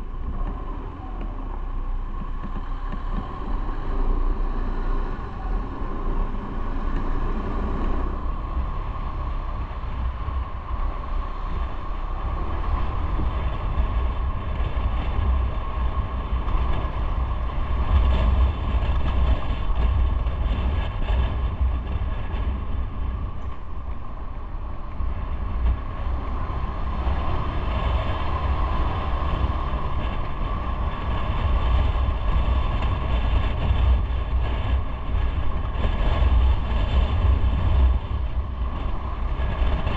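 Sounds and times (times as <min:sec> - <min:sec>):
motorcycle running: 0:00.0 - 0:39.9
wind rumble on microphone: 0:00.0 - 0:39.9.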